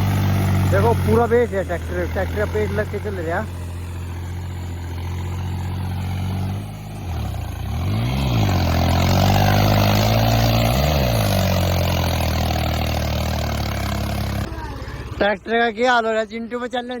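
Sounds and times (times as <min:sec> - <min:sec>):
tractor belly dragging in mud: 0:00.0 - 0:15.4
tractor diesel engine labouring: 0:00.0 - 0:17.0.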